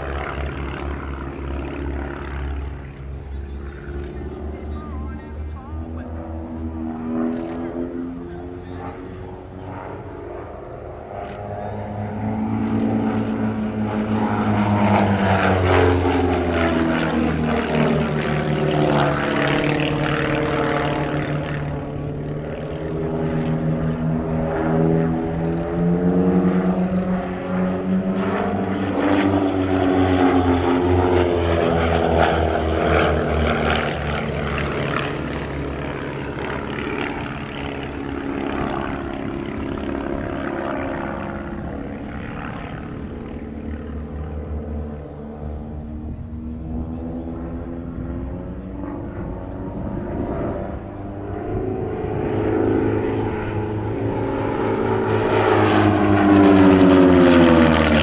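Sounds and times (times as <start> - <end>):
propeller plane engines: 0.0 - 58.0.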